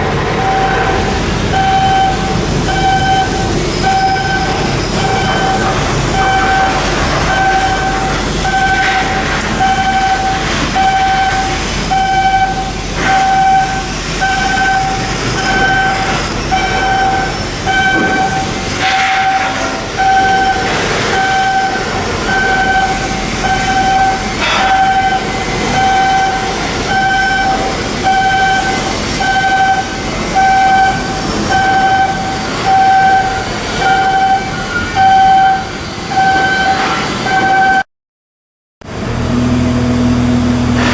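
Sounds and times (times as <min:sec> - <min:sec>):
industrial work noise: 0:00.0 - 0:37.9, 0:38.8 - 0:40.9
warning alarm beeping: 0:00.0 - 0:37.9.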